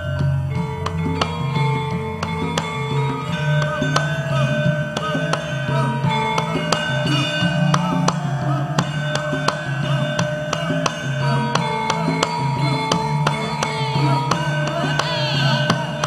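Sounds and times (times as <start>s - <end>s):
hand drum strokes: 0.0s - 16.0s
metallophones and gongs ringing: 0.0s - 16.0s.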